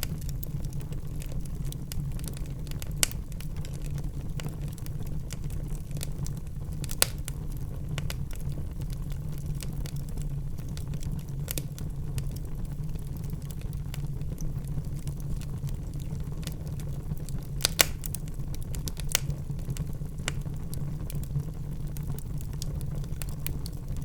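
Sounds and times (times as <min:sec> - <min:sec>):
low rumble of fire: 0:00.0 - 0:24.0
wood fire crackling: 0:00.0 - 0:24.0.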